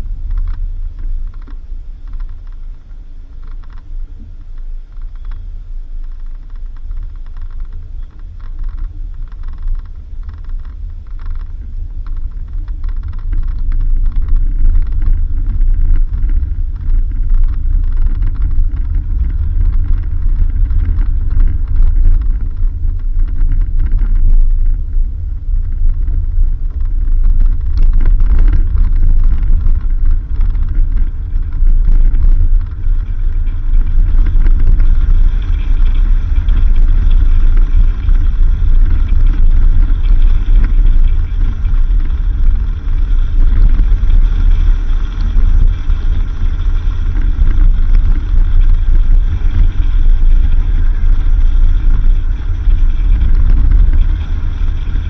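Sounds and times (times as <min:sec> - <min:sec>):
vehicle low rumble on dirt road: 0:00.0 - 0:55.0.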